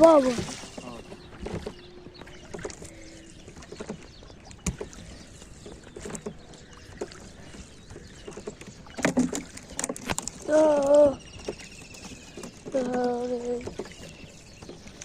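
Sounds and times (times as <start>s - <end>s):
faint water wash: 0.0s - 15.0s.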